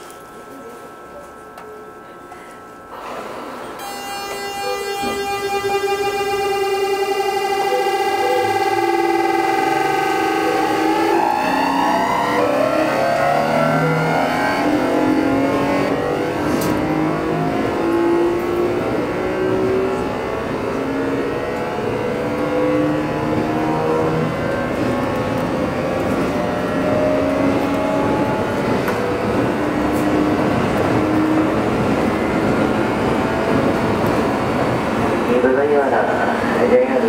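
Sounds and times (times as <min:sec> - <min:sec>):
electric train inverter whine: 0:00.0 - 0:37.0.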